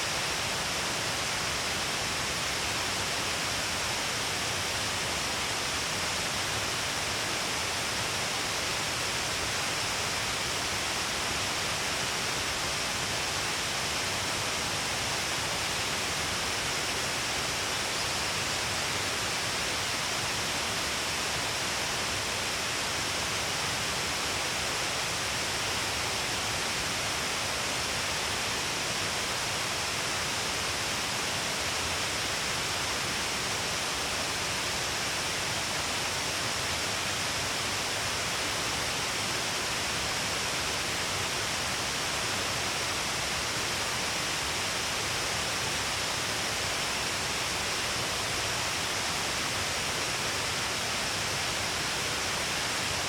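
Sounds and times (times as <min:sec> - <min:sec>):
waterfall rushing and splashing: 0:00.0 - 0:53.0.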